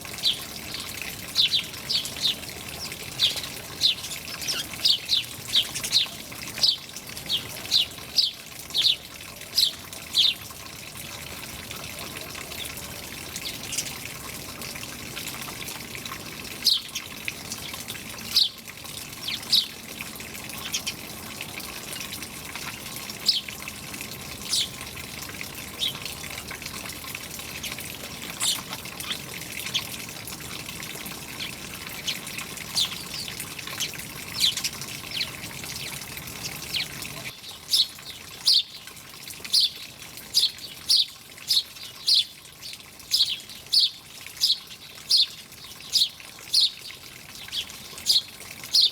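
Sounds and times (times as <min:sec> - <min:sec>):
small birds chirping: 0:00.0 - 0:10.4, 0:12.0 - 0:14.1, 0:16.6 - 0:19.8, 0:20.4 - 0:21.2, 0:22.0 - 0:23.5, 0:24.3 - 0:24.9, 0:25.6 - 0:38.9, 0:39.5 - 0:48.9
running water: 0:00.0 - 0:48.9.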